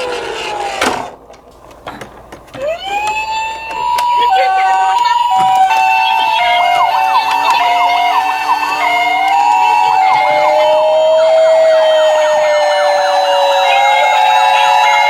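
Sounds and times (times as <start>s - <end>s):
slow wailing siren: 0.0s - 1.1s, 2.6s - 15.0s
fast yelp siren: 2.6s - 15.0s
two-tone hi-lo siren: 2.6s - 15.0s.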